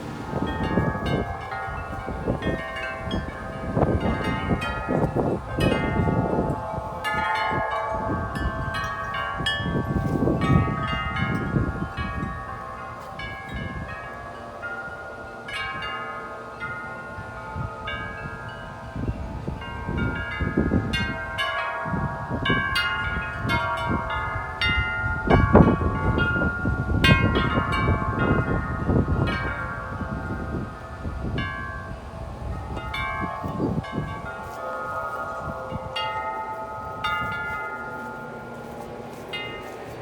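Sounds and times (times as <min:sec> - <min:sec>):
wind buffeting microphone: 0:00.0 - 0:40.0
wind chimes ringing: 0:00.0 - 0:40.0.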